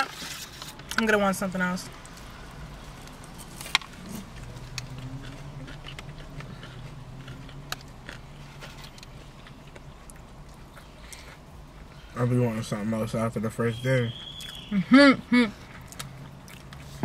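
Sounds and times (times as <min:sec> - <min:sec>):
people chewing food: 0:01.9 - 0:13.5, 0:14.1 - 0:17.0.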